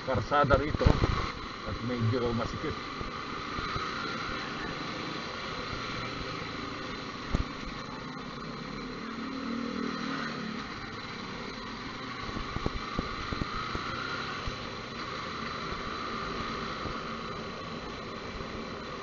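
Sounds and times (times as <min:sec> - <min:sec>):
motorcycle engine and road noise: 0:00.0 - 0:19.0.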